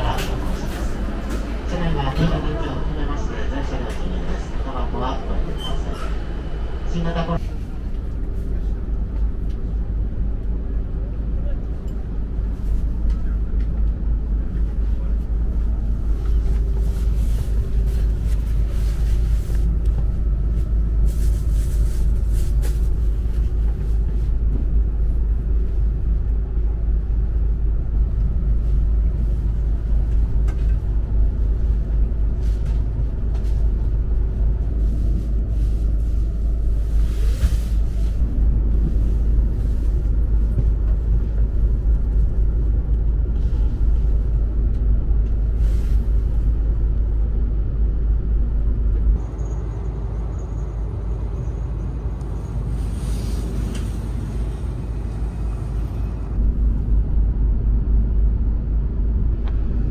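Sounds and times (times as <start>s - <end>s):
low rumble inside train car: 0.0s - 59.9s.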